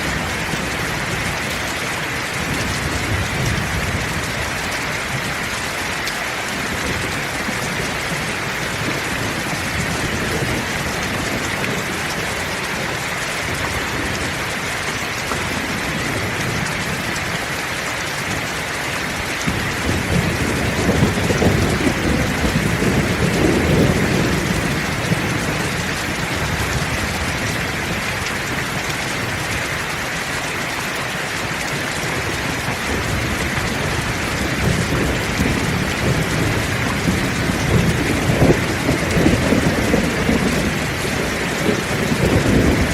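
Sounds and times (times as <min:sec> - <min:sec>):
thunder rumbling: 0:00.0 - 0:05.6, 0:06.5 - 0:17.6, 0:18.2 - 0:29.9, 0:31.4 - 0:42.9
heavy rain: 0:00.0 - 0:42.9.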